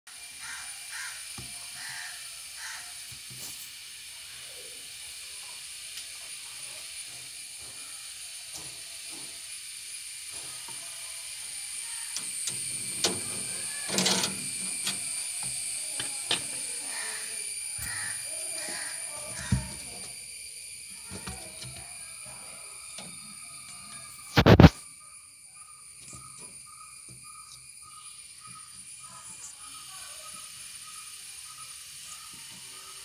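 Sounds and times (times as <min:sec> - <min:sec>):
steady high hiss: 0:00.1 - 0:33.0.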